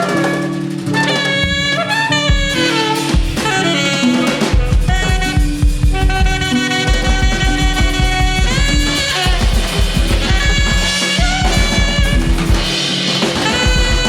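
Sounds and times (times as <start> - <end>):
alto saxophone bending notes: 0.0 - 14.0
drum kit: 0.0 - 14.0.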